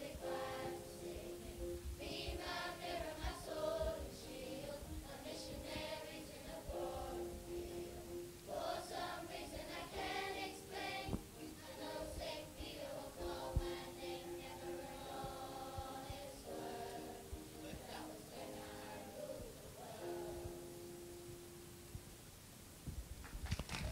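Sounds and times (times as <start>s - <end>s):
children's choir singing: 0.0s - 20.8s.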